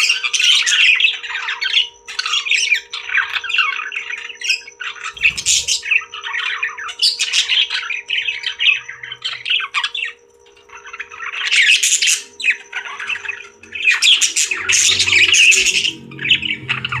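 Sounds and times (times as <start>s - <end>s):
parrots squawking and chattering: 0.0s - 17.0s.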